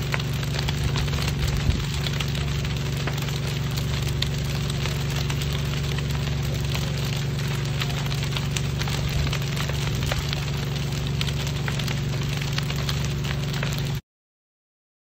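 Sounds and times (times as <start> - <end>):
fire crackling: 0.0 - 14.0
low engine hum: 0.0 - 14.0.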